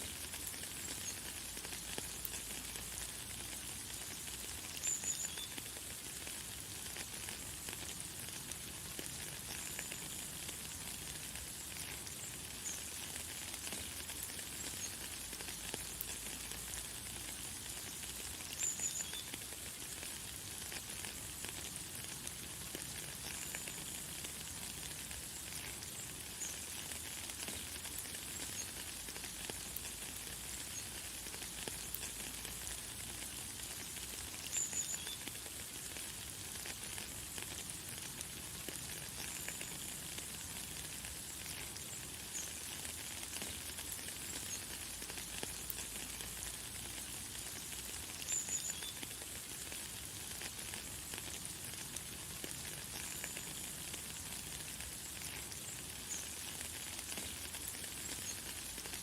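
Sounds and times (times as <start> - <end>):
light rain hissing: 0.0 - 59.0.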